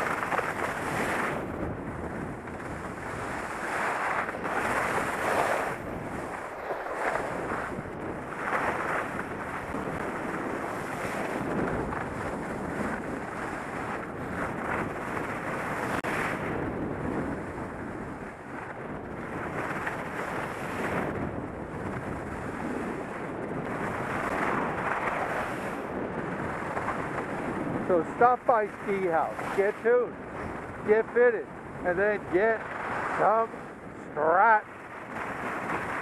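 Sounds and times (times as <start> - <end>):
skis scraping over snow: 0.0 - 17.6, 19.3 - 21.2, 21.8 - 36.0
wind over microphone: 0.0 - 36.0.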